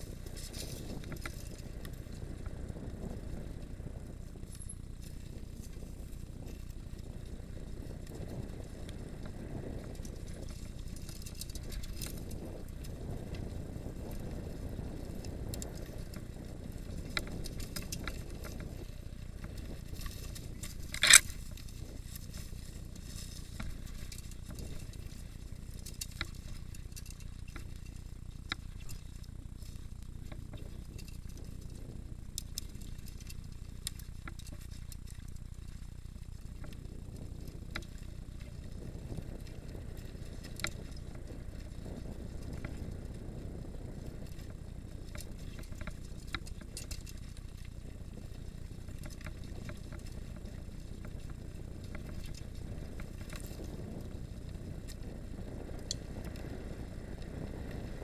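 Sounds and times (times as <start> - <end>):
bike clicks and rattles: 0.0 - 58.0
bike tyres rumbling on dirt: 0.0 - 58.0.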